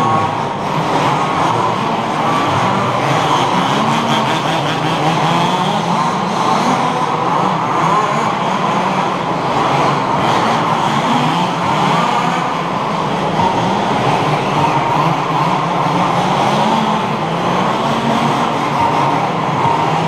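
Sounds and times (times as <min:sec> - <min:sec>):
rc car engines revving: 0:00.0 - 0:20.0.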